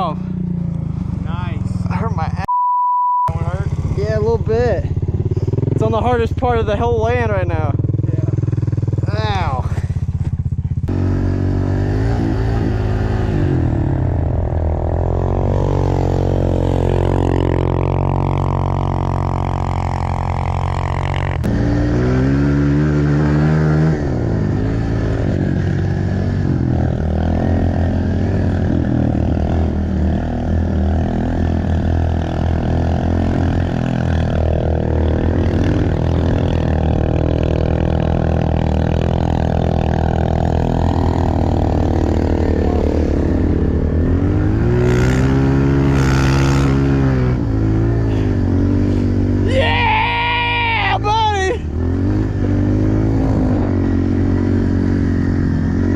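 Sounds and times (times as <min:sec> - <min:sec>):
pit bike engine revving: 0:03.3 - 0:55.9.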